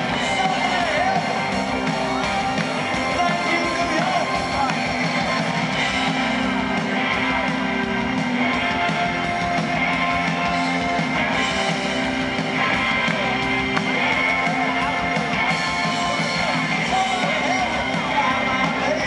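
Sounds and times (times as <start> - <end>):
drums: 0.0 - 19.0
electric guitars: 0.0 - 19.0
keyboards: 0.0 - 19.0.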